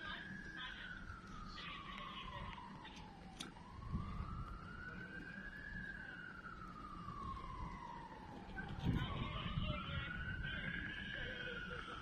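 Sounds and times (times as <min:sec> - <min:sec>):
faint wailing siren: 0:00.0 - 0:12.0.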